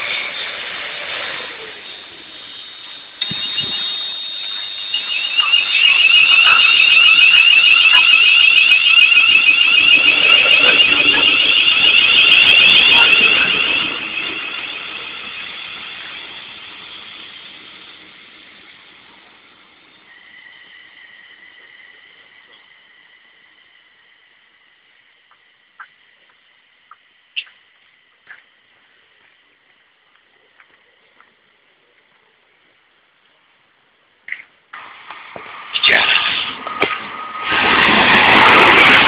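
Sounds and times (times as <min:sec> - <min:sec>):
faint steady high whine: 0:00.0 - 0:37.5
train passing with squealing whine: 0:00.0 - 0:39.0.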